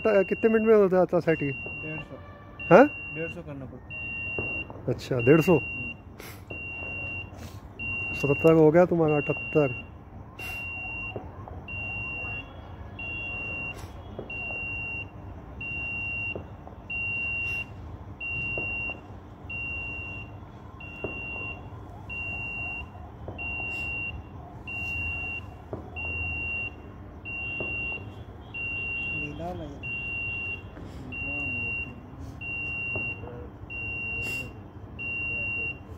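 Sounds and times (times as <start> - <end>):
welding machine beeping: 3.9 - 35.8.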